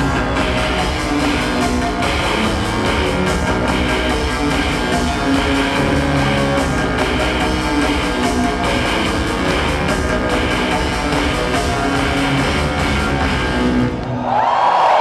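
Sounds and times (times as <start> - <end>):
live band music: 0.0 - 14.0.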